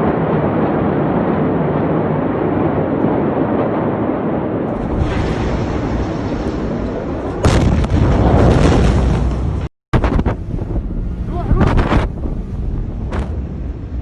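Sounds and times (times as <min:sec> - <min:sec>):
large explosion blast: 0:00.0 - 0:14.0
low rumbling: 0:00.0 - 0:14.0.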